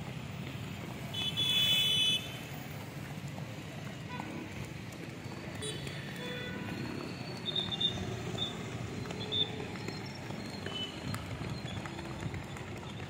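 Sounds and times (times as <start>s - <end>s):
runners' footsteps on asphalt: 0.0s - 13.0s.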